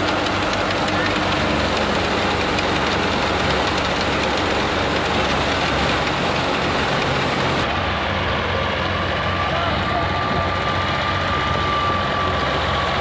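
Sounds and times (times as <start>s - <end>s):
threshing machine running: 0.0s - 13.0s
tractor diesel engine: 0.0s - 13.0s.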